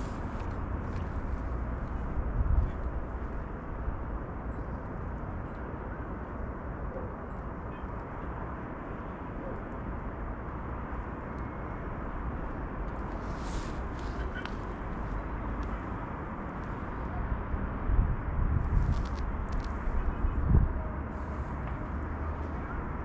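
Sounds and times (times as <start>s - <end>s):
low city rumble: 0.0s - 23.0s.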